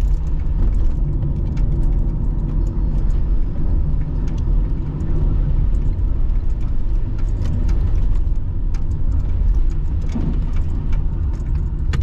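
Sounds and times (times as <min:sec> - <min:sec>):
light ticks and rattles: 0:00.0 - 0:12.0
road and engine rumble: 0:00.0 - 0:12.0.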